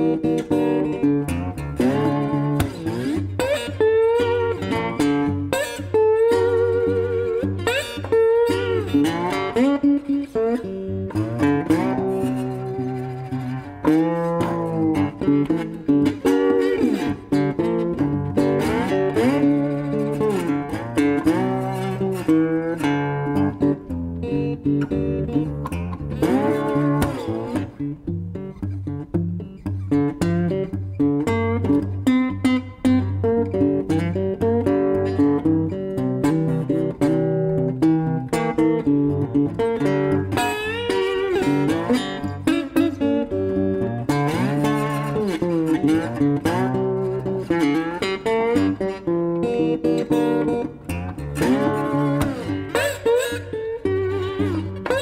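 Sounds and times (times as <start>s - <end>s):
guitar music: 0.0s - 55.0s.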